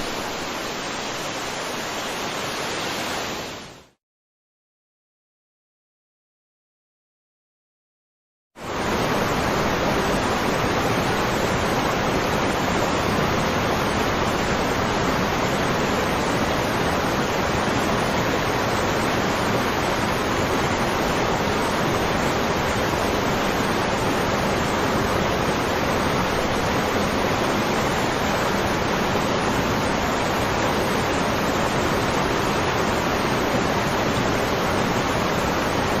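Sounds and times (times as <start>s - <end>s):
waterfall rushing: 0.0s - 3.8s, 8.6s - 36.0s.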